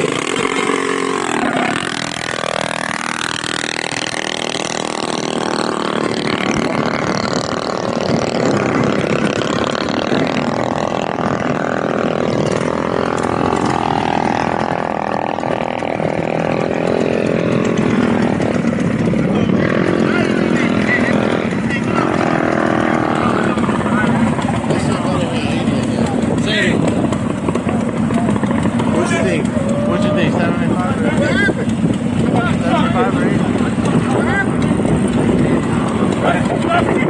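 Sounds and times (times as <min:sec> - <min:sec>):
mini bike engines revving: 0:00.0 - 0:37.0.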